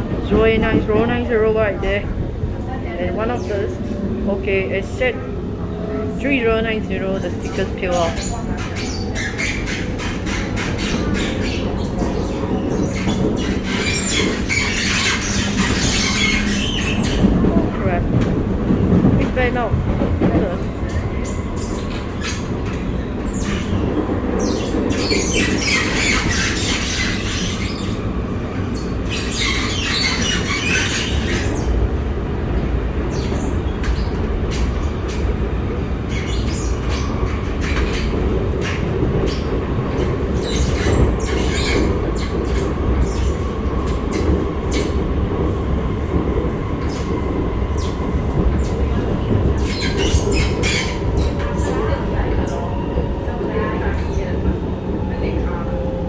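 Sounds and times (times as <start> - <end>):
metro train rumble: 0.0 - 56.0.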